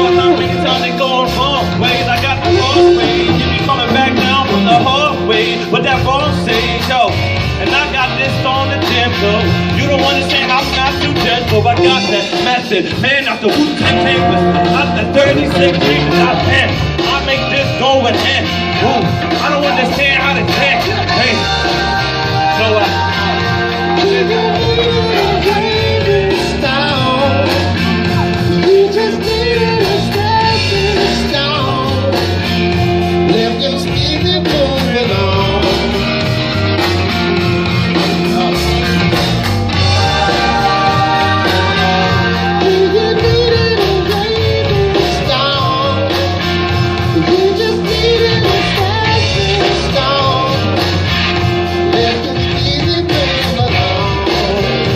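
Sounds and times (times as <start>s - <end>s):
rock band music with guitar: 0.0s - 54.9s.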